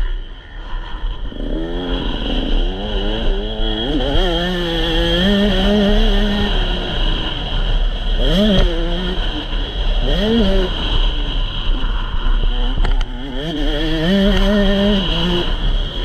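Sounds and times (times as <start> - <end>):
motocross bike engine revving: 1.3 - 16.0.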